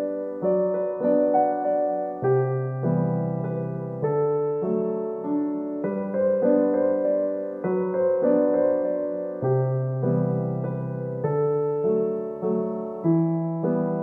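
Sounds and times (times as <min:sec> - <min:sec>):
piano chords ringing: 0:00.0 - 0:14.0.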